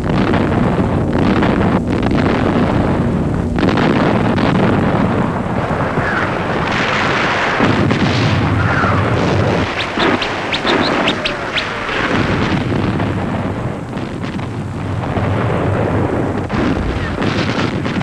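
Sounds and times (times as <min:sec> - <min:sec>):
sharp cracks: 0:00.0 - 0:14.9, 0:16.2 - 0:18.0
rumble of artillery explosions: 0:00.0 - 0:18.0.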